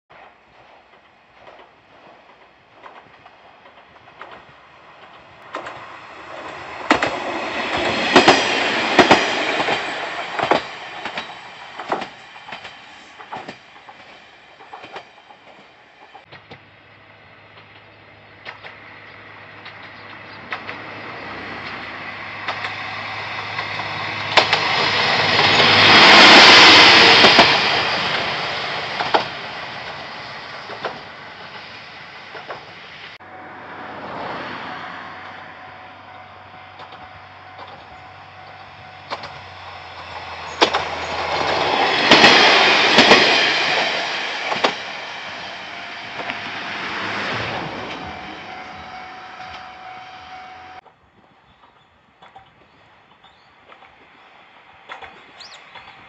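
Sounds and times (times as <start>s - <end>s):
wheels clacking over rail joints: 0.1s - 33.2s, 34.0s - 56.0s
diesel railcar running by: 0.1s - 56.0s.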